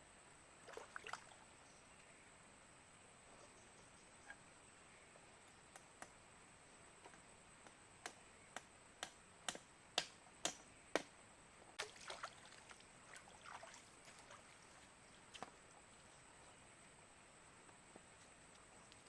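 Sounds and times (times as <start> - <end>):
faint high-pitched whine: 0.0 - 19.0.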